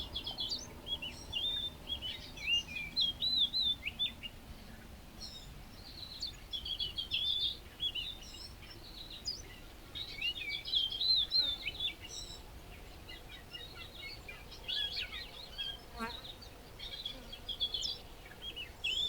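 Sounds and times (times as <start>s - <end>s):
faint outdoor hiss: 0.0s - 19.0s
songbirds chirping and warbling: 0.0s - 19.0s.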